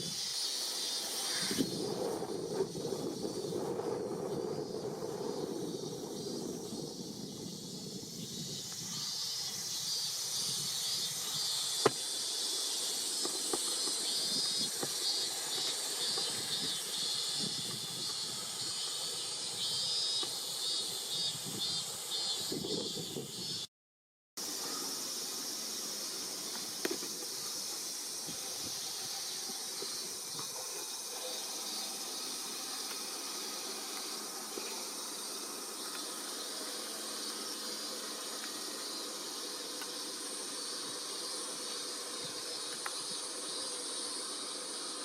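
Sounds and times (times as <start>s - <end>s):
cicadas buzzing: 0.0s - 23.7s, 24.4s - 45.0s.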